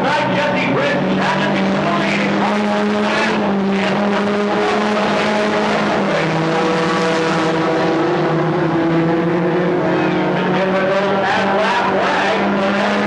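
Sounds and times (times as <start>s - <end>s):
stock car engines droning: 0.0s - 13.0s.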